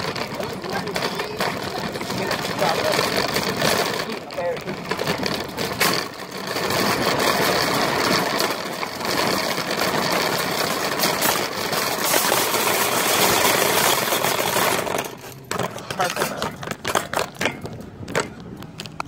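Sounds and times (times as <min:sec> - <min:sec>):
shopping cart rattling on pavement: 0:00.0 - 0:19.0.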